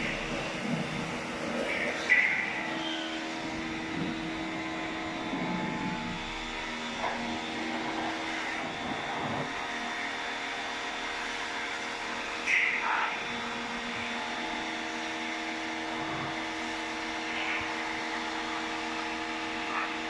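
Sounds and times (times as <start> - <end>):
electric motor hum: 0.0 - 20.0.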